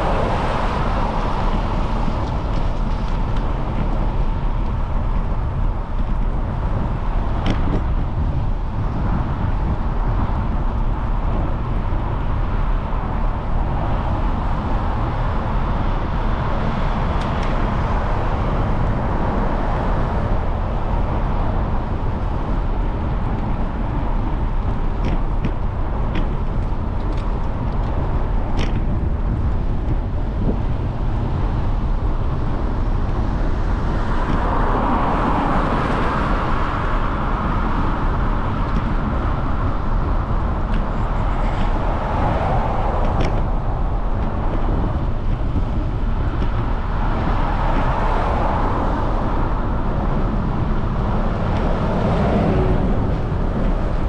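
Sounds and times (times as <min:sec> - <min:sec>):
road and traffic noise: 0:00.0 - 0:54.0.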